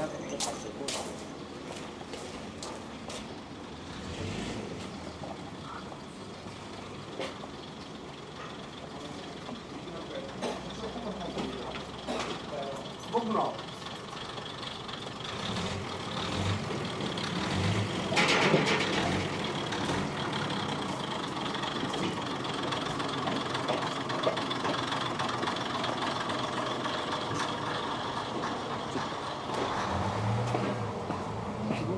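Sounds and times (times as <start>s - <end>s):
diesel railcar engine running: 0.0s - 31.9s.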